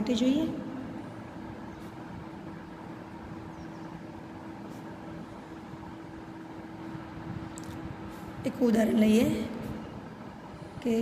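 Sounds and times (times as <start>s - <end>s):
steady hum and hiss: 0.0s - 11.0s.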